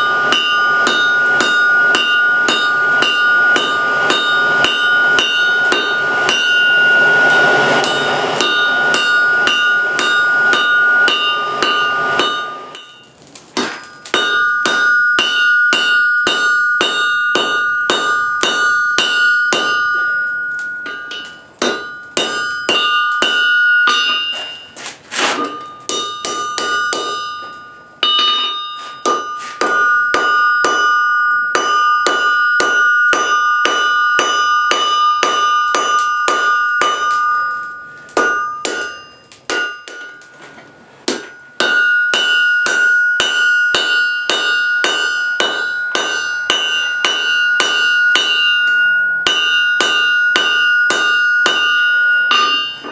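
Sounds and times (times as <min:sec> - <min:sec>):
hammer striking ringing anvil: 0:00.0 - 0:52.9.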